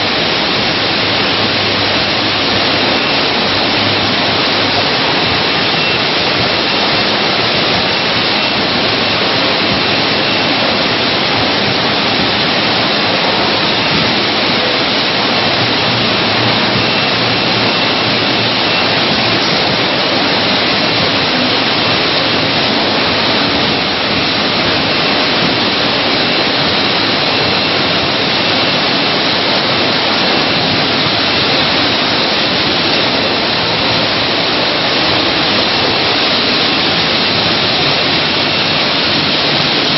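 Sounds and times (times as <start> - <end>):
production line machinery: 0.0 - 39.9.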